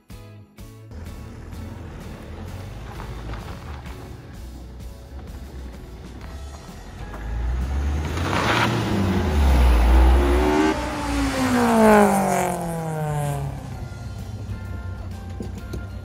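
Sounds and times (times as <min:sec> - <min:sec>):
car pulling away and driving past: 0:00.9 - 0:16.0.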